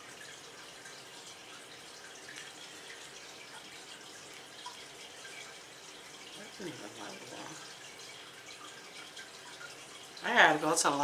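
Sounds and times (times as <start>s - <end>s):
aquarium filter trickling water: 0.0s - 11.0s.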